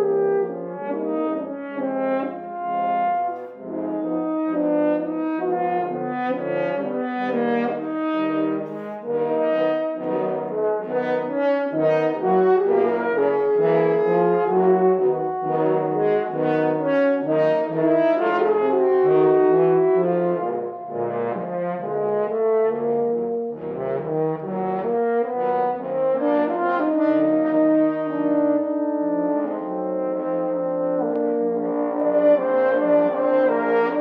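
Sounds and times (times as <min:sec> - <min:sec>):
brass instruments playing: 0:00.0 - 0:34.0.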